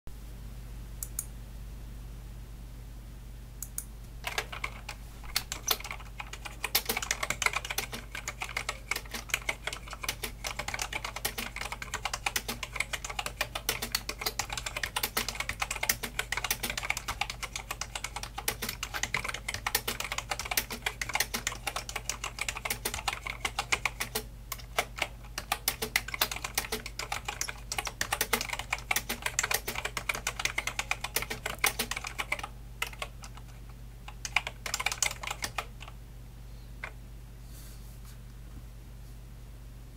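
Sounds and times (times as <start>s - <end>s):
keyboard typing: 3.6s - 36.0s.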